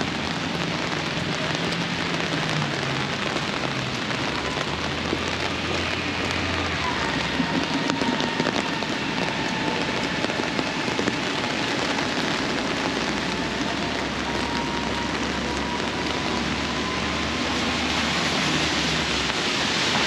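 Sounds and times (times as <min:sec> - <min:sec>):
heavy rain on a street: 0:00.0 - 0:20.0.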